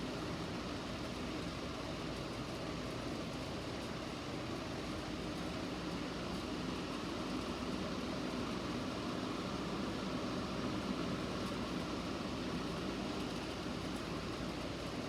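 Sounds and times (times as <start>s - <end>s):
room noise hiss and hum: 0.0s - 15.0s.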